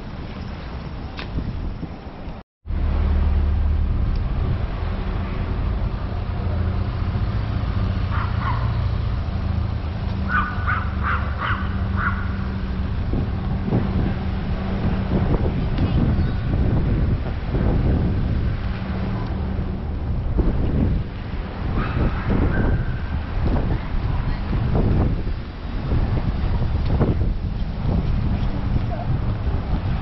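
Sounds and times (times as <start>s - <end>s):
engine hum: 0.0s - 30.0s
traffic rumble: 0.0s - 30.0s
wind on microphone: 0.0s - 30.0s.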